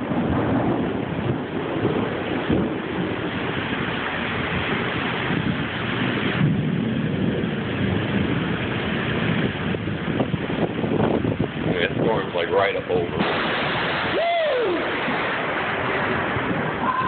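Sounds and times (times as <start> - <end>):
pouring rain: 0.0 - 17.0
thunder rumbling: 0.0 - 17.0.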